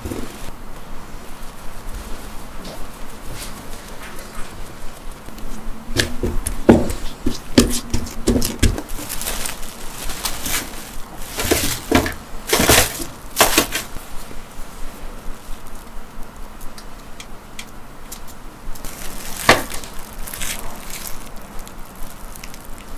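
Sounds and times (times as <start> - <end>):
cling film crinkling: 1.3 - 22.9.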